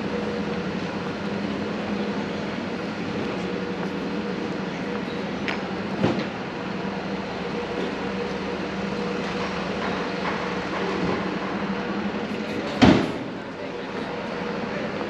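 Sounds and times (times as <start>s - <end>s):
rail vehicle rumble and hum: 0.0s - 15.0s.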